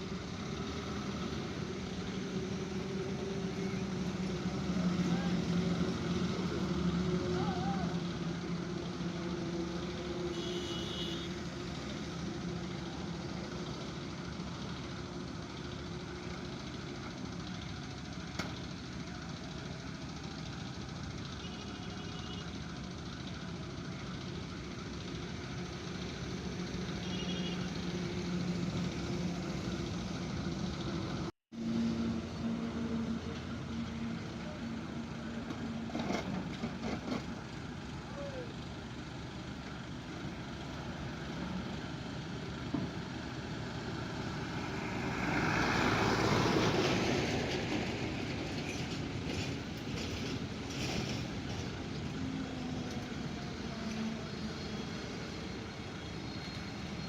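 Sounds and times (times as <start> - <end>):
heavy vehicle engine running: 0.0 - 57.0
road noise: 0.0 - 57.0.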